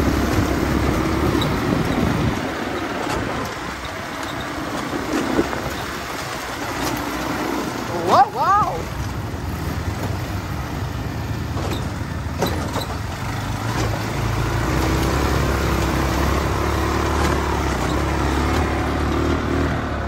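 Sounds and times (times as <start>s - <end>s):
quad bike engines running: 0.0s - 20.0s.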